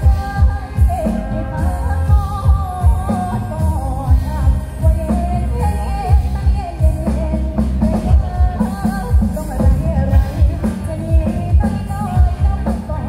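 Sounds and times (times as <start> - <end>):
loud pop song with bass beat: 0.0 - 13.0.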